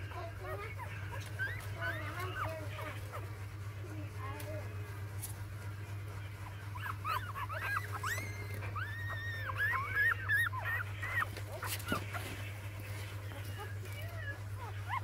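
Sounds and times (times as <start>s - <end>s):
puppies whimpering: 0.0s - 15.0s
steady low hum: 0.0s - 15.0s.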